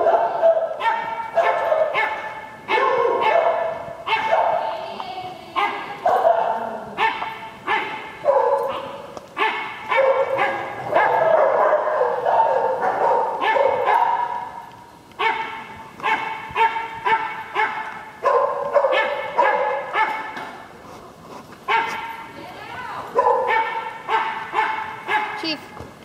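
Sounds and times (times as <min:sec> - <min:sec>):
dogs barking: 0:00.0 - 0:04.7, 0:05.5 - 0:20.5, 0:21.6 - 0:22.3, 0:23.1 - 0:25.5.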